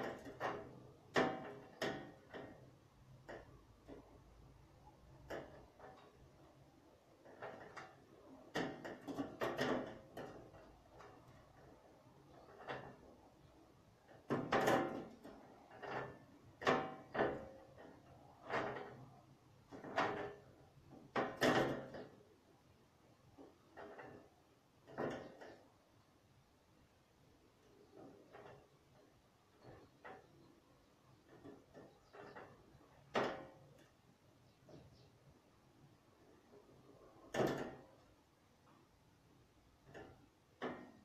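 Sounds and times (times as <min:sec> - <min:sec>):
objects knocking and clattering: 0:00.0 - 0:22.5, 0:23.2 - 0:25.8, 0:27.6 - 0:35.1, 0:36.3 - 0:38.8, 0:39.7 - 0:41.0.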